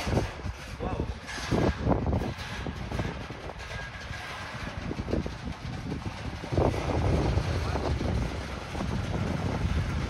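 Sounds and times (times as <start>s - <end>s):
train cars clanking: 0.0s - 10.0s
train wheels rumbling on rail: 0.0s - 10.0s.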